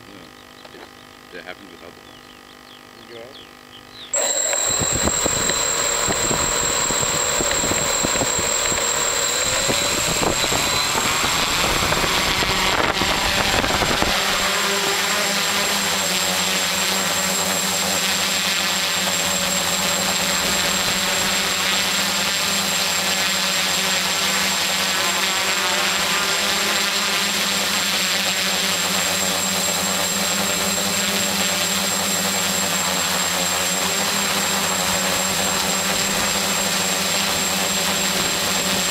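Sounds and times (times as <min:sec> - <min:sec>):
quadcopter motors humming: 0:00.0 - 0:38.9.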